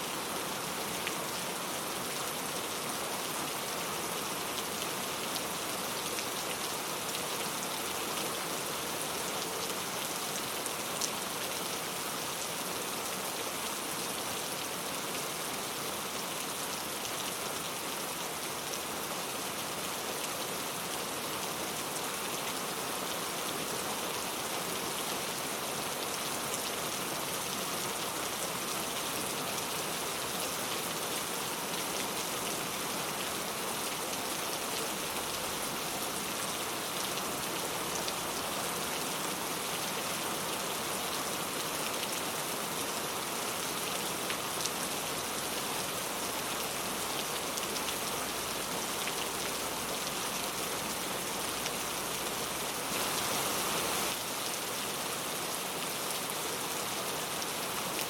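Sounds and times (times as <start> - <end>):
rain pattering on a surface: 0.1 - 58.0.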